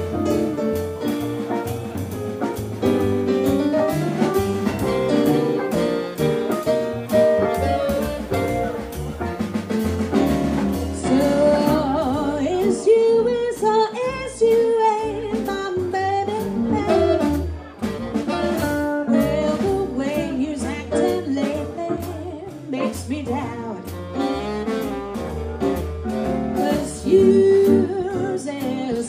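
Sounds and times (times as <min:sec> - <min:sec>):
drums with cymbal beat: 0:00.0 - 0:29.0
lead melody: 0:00.0 - 0:29.0
piano: 0:00.0 - 0:29.0
walking bass: 0:00.0 - 0:29.0.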